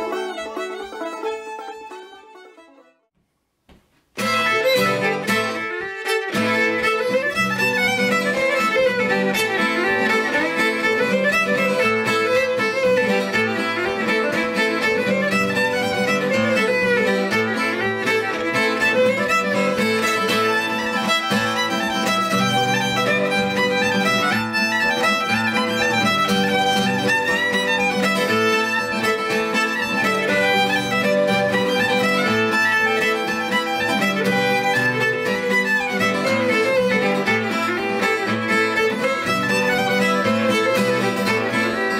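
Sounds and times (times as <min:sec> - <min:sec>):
fiddle playing a fast reel: 0:00.0 - 0:02.8, 0:04.2 - 0:41.9
acoustic guitar rhythm: 0:00.0 - 0:41.9.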